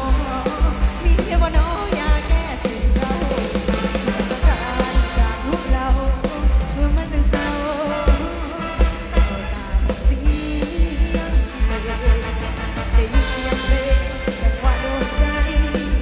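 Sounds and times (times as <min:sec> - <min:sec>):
live band music over loudspeakers: 0:00.0 - 0:16.0.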